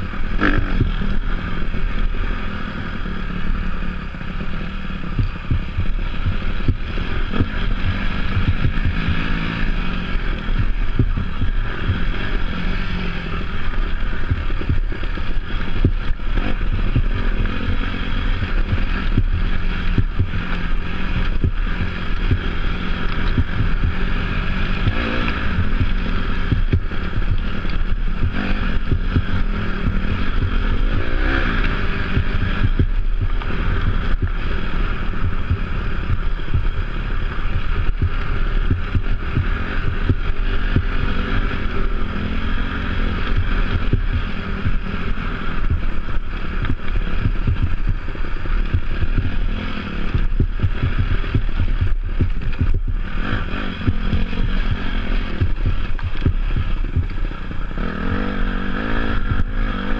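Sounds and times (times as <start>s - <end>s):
dirt bike engine running: 0.0s - 59.9s
wind noise on microphone: 3.5s - 59.9s.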